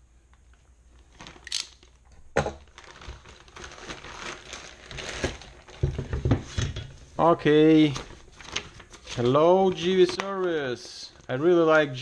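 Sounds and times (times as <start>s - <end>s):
package rustling: 0.4s - 6.4s, 7.5s - 12.0s.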